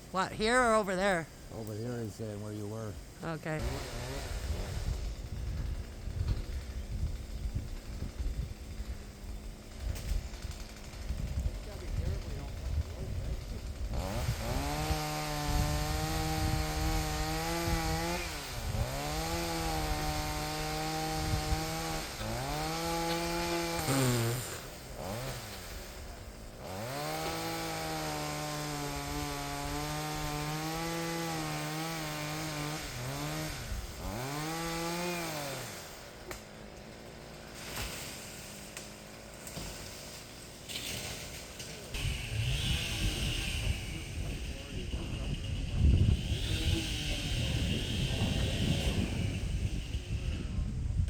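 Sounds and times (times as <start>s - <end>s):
chainsaw cutting into tree: 3.5s - 51.0s.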